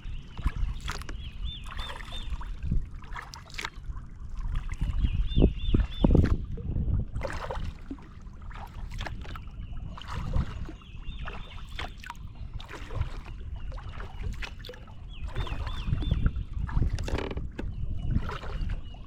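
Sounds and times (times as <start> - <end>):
low wind rumble: 0.0 - 3.2, 3.8 - 19.0
paddle splashing and dripping: 0.0 - 19.0.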